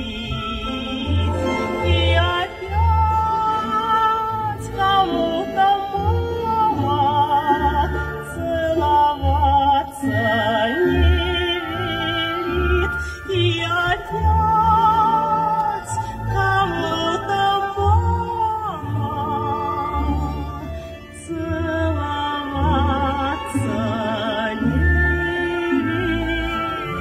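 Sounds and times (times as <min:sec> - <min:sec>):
person singing with vibrato: 0:00.0 - 0:27.0.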